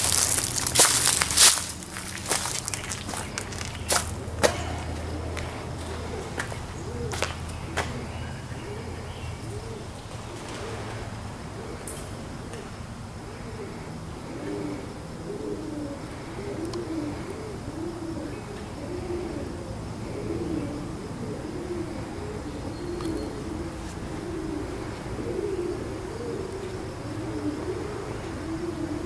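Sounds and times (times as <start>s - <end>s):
pigeons cooing: 0.0s - 29.0s.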